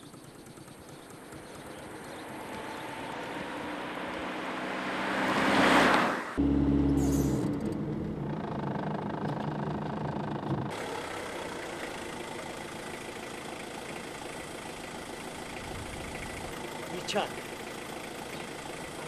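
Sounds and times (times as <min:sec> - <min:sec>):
car engine idling: 0:00.0 - 0:04.6, 0:06.4 - 0:19.0
car engine droning: 0:00.0 - 0:19.0.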